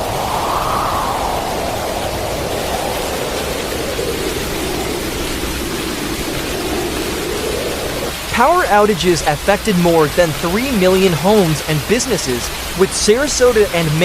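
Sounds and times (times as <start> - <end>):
heavy rain: 0.0 - 14.0
hurricane wind: 0.0 - 14.0.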